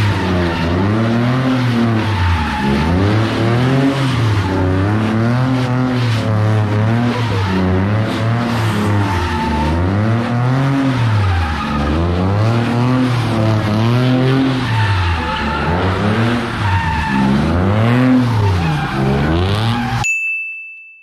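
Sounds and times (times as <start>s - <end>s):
car engine revving: 0.0s - 20.0s
tires squealing on pavement: 0.0s - 20.0s.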